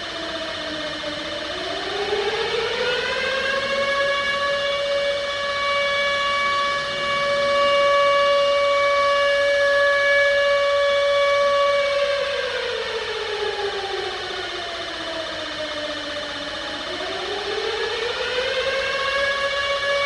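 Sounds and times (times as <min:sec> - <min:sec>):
civil defense siren wailing: 0:00.0 - 0:20.0.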